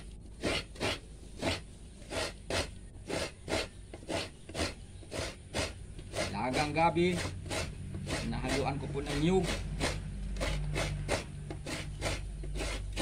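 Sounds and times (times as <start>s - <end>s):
coconut grating rasps: 0.0s - 13.0s.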